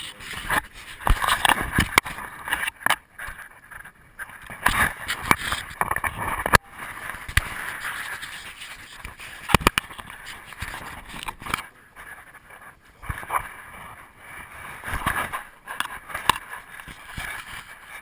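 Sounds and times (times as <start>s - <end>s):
camera knocking and rubbing: 0.0s - 14.0s, 14.7s - 18.0s.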